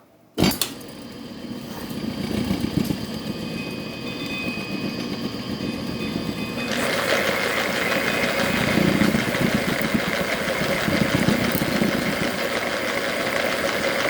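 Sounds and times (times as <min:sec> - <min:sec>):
metal shaper motor running: 0:00.4 - 0:14.0.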